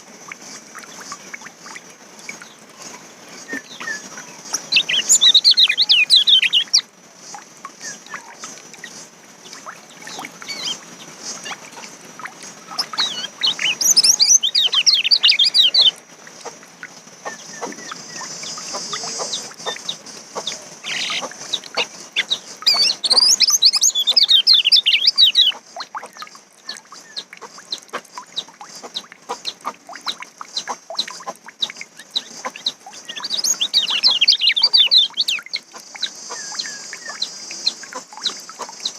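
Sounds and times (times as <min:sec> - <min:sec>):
steady high hiss: 0:00.0 - 0:38.9
songbird chirping: 0:00.3 - 0:38.9.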